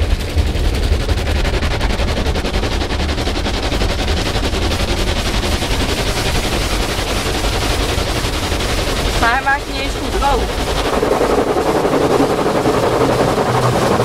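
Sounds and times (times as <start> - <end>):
car wash brushes and spray drumming: 0.0 - 14.0
deep machinery rumble: 0.0 - 14.0.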